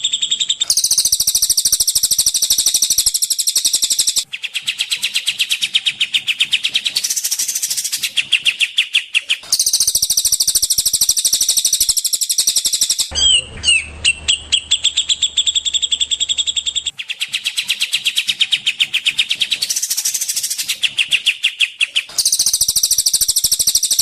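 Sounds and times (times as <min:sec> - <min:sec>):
songbird high chirps: 0:00.0 - 0:24.0.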